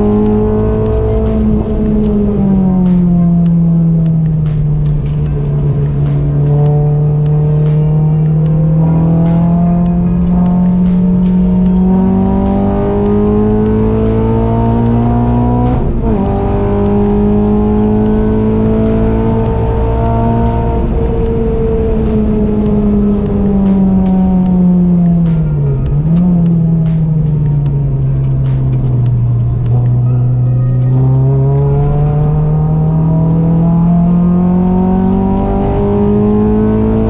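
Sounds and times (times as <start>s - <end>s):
car engine accelerating hard: 0.0s - 37.0s
music with a steady beat: 0.0s - 37.0s.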